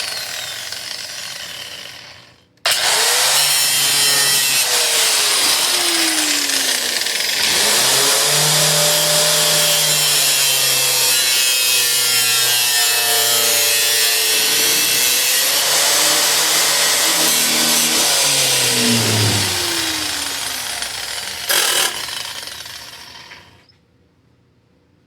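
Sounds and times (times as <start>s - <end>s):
power tool cutting sheet metal: 0.0s - 23.6s.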